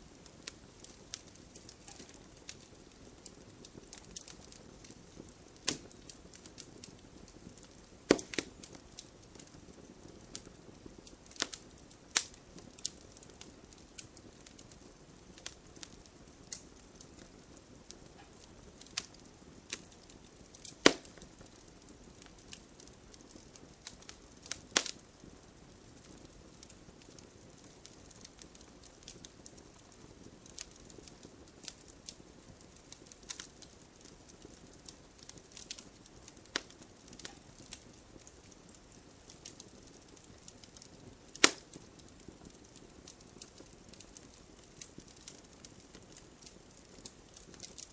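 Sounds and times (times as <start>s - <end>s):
fire pops and snaps: 0.0s - 47.9s
wood fire crackling: 0.0s - 47.9s.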